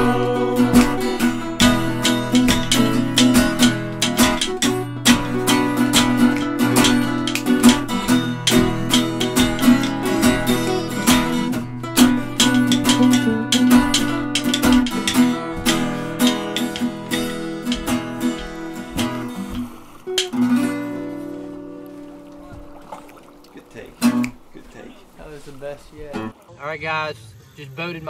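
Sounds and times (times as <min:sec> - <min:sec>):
acoustic guitar strummed and picked: 0:00.0 - 0:26.4.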